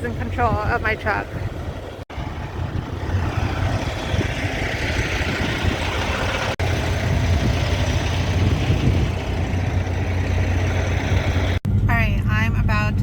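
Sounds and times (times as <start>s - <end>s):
truck diesel engine hum: 0.0s - 13.0s.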